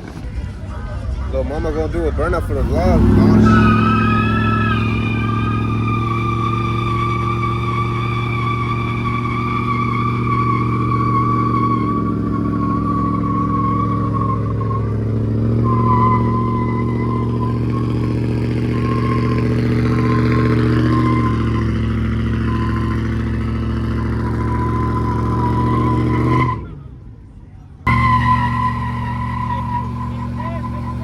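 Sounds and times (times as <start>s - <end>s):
tires squealing: 1.5s - 27.1s, 27.9s - 31.0s
engine revving high: 2.4s - 26.8s, 27.9s - 31.0s.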